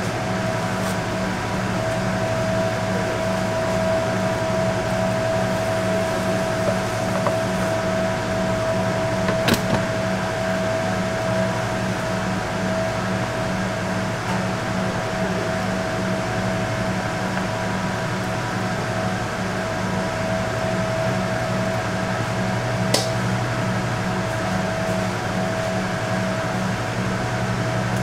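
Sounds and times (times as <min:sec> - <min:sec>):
kitchen machinery hum: 0:00.0 - 0:28.0.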